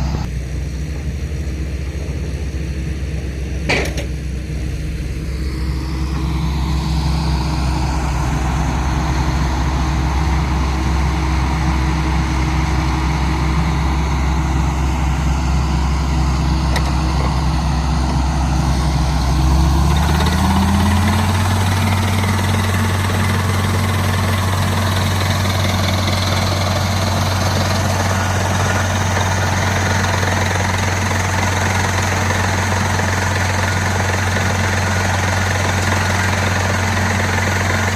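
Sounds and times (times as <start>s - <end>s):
rock drill engine drone: 0.0s - 37.9s.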